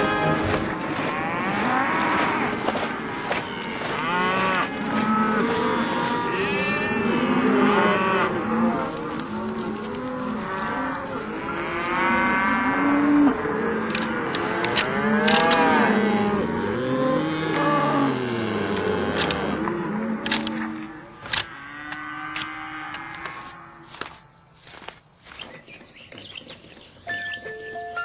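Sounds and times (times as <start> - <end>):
cattle mooing: 0.0 - 24.0.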